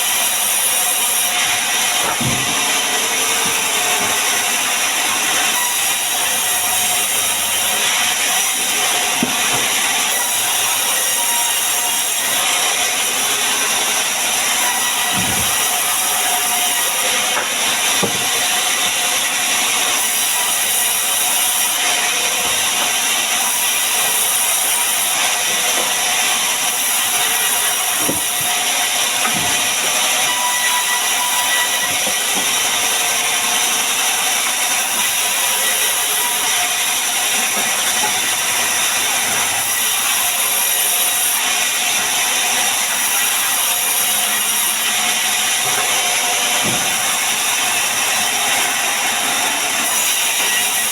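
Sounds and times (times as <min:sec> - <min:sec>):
power tool working wood: 0:00.0 - 0:50.9.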